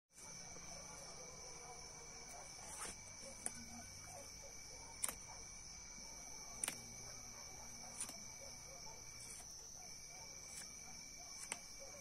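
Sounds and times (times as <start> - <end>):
insects chirring: 0.1 - 12.0.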